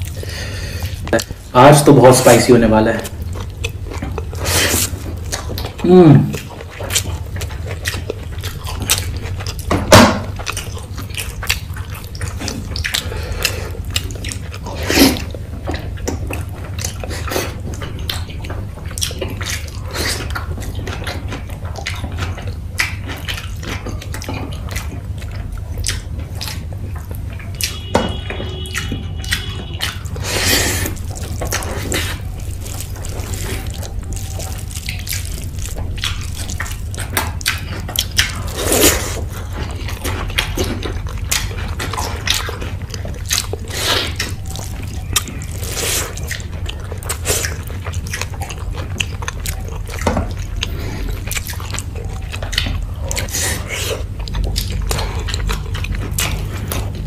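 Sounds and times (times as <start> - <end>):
food squelching by hand: 0.0 - 57.0
steady low hum: 0.0 - 57.0
wet chewing and lip smacking: 0.0 - 57.0.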